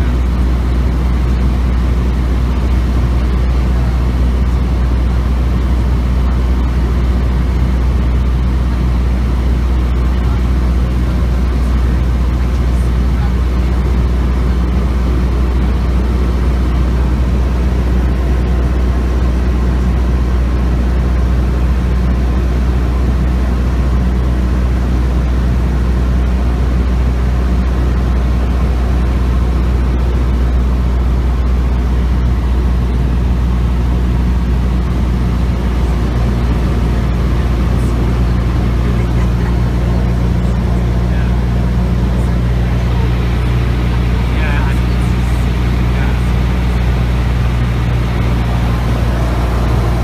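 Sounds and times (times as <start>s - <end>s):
propeller plane engine droning: 0.0s - 50.0s.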